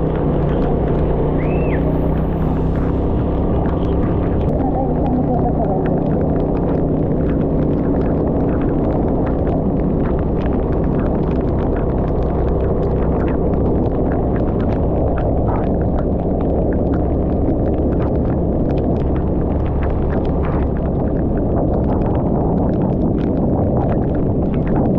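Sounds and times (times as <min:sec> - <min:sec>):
heavy rain: 0:00.0 - 0:24.9
raindrops ticking: 0:00.0 - 0:24.9
scooter engine rumble: 0:00.0 - 0:24.9.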